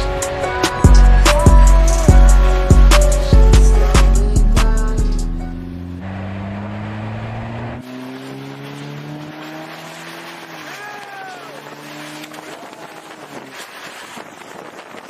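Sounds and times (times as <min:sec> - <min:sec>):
car engine accelerating: 0:00.0 - 0:14.1
rough road noise: 0:00.0 - 0:15.0.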